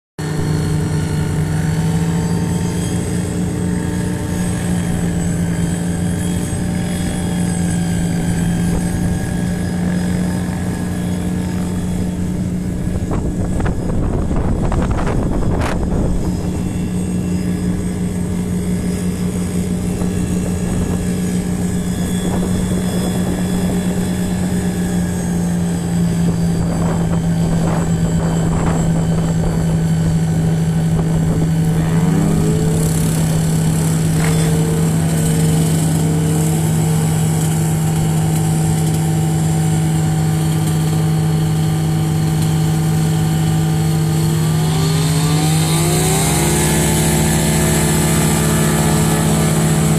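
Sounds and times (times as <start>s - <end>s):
piston plane engine running: 0.2s - 49.9s
plane engine revving up: 0.2s - 49.9s.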